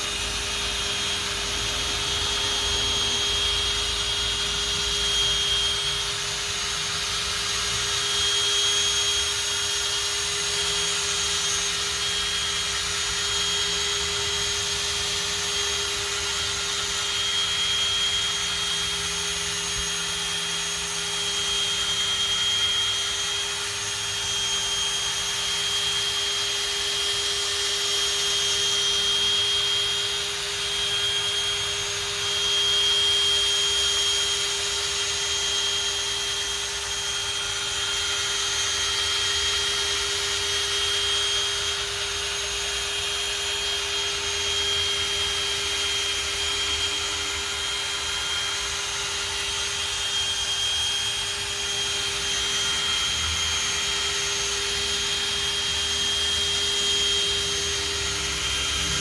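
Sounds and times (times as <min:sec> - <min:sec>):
power polisher whining: 0:00.0 - 0:59.0.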